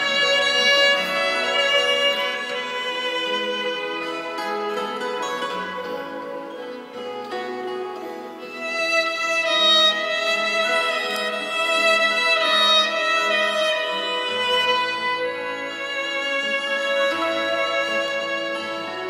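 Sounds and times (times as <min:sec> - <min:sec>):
acoustic guitar: 0:00.0 - 0:19.0
guitar: 0:00.0 - 0:19.0
violin bowed melody: 0:00.0 - 0:19.0.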